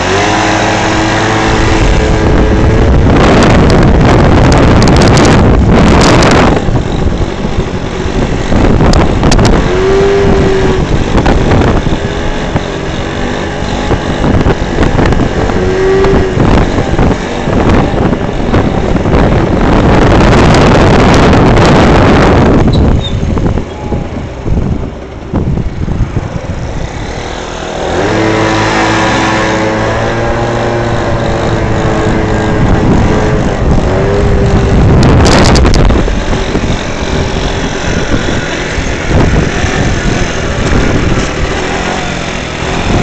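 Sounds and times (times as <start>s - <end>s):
scooter engine running: 0.0s - 43.0s
wind rush on microphone: 0.0s - 43.0s.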